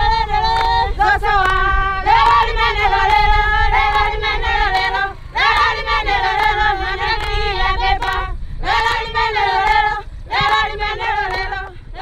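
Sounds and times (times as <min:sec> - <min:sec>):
high voices singing together: 0:00.0 - 0:12.0.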